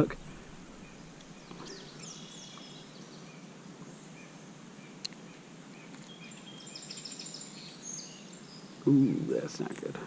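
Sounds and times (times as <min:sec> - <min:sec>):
outdoor background hiss: 0:00.0 - 0:10.0
faint high bird chirps: 0:00.2 - 0:09.8.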